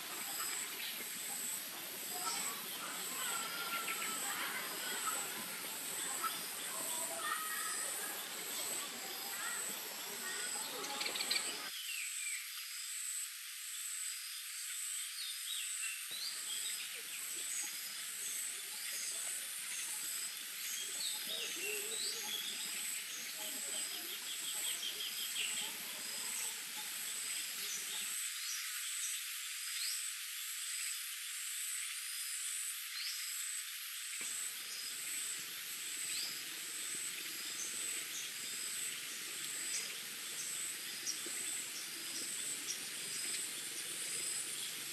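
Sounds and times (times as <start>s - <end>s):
pulsing insect chorus: 0.0s - 44.9s.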